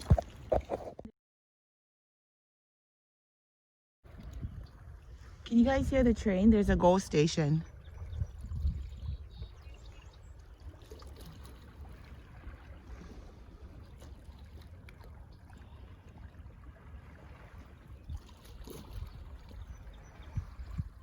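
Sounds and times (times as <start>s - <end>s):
water lapping and trickling: 0.0s - 1.1s, 4.0s - 21.0s.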